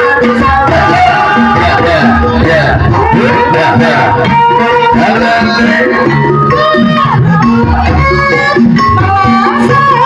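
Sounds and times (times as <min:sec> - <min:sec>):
drum beats: 0:00.0 - 0:10.0
loud music with held notes: 0:00.0 - 0:10.0.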